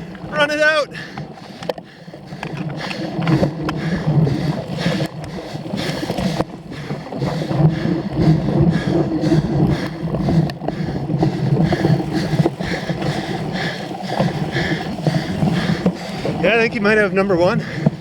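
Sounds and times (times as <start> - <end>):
bicycle rattles and knocks: 0.0 - 18.0
wind rushing over microphone: 0.0 - 18.0.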